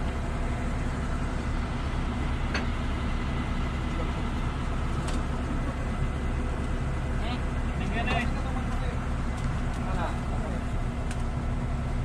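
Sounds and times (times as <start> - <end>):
crane diesel engine running: 0.0 - 12.0.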